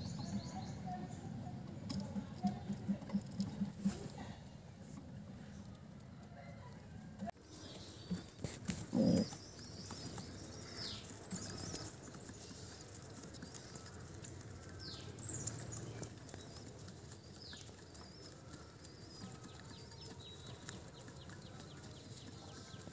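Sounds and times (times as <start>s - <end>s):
birds chirping: 0.0s - 4.5s, 5.3s - 22.9s.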